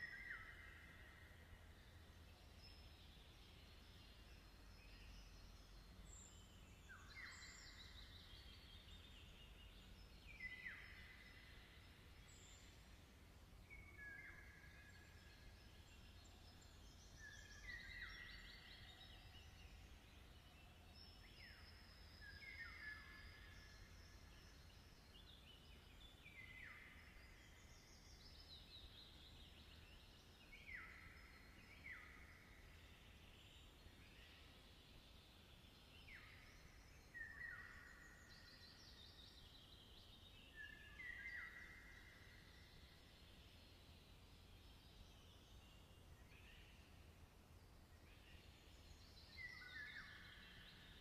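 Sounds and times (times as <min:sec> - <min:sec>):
songbirds singing: 0:00.0 - 0:51.0.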